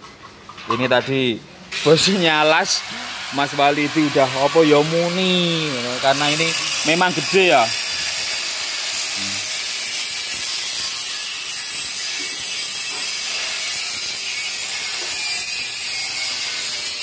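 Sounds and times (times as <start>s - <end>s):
welding hiss: 1.7s - 17.0s.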